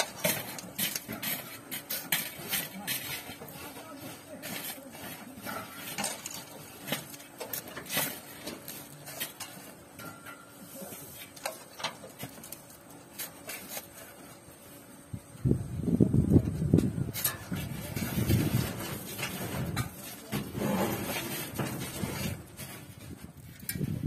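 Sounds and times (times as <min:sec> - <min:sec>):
shovel scraping sand and gravel: 0:00.0 - 0:09.8, 0:10.5 - 0:14.2, 0:17.1 - 0:23.9.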